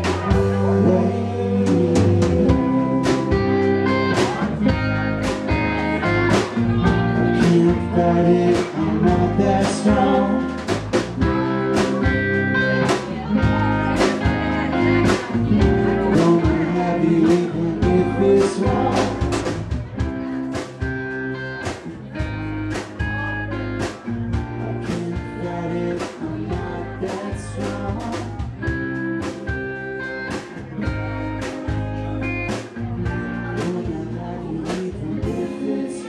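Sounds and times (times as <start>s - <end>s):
drum kit beat: 0.0s - 36.0s
electric bass: 0.0s - 36.0s
electric guitars: 0.0s - 36.0s.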